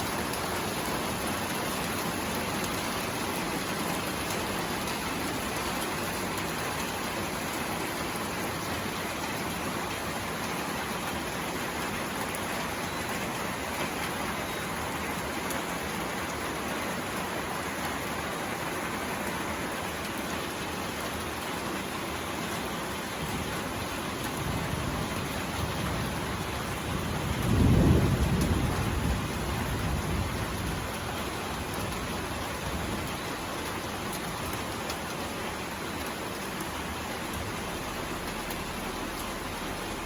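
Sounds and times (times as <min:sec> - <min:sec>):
rain falling on a roof: 0:00.0 - 0:40.0.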